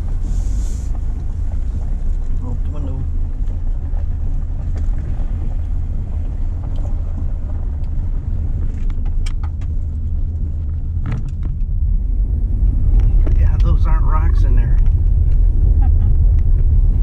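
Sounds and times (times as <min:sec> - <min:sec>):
car driving on gravel: 0:00.0 - 0:17.0.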